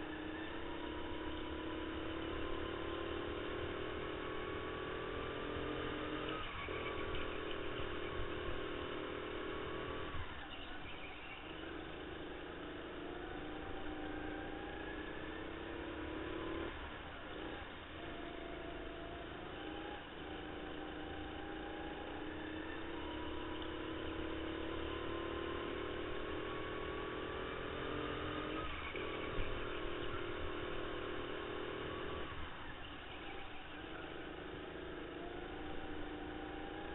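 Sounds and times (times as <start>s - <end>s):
kart motor running flat out: 0.0s - 36.9s.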